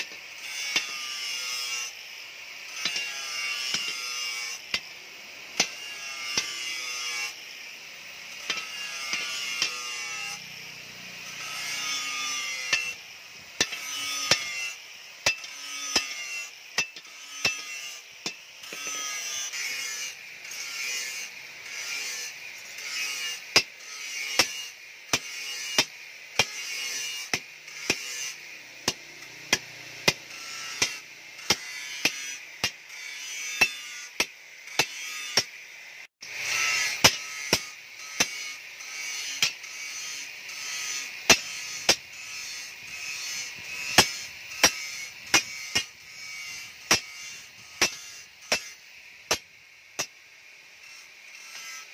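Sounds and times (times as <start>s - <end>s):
hammer striking hot steel on anvil: 0.0s - 2.0s, 2.7s - 7.4s, 8.3s - 10.5s, 11.2s - 35.6s, 36.2s - 50.2s.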